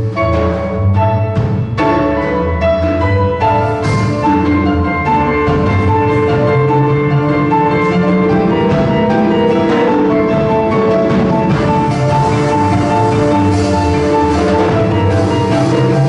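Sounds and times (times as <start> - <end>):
live jazz band playing: 0.0 - 16.0.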